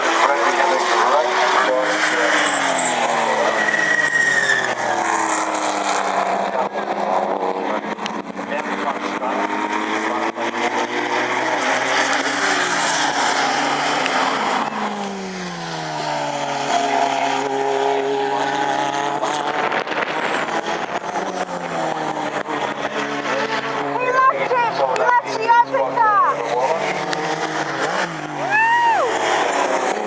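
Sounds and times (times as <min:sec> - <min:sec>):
racing car engines passing by: 0:00.0 - 0:30.0.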